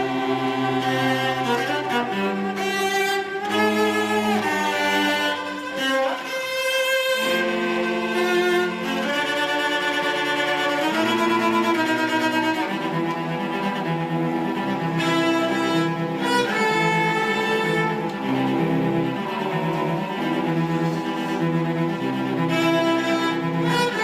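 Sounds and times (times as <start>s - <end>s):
string orchestra playing sustained chords: 0.0s - 24.0s.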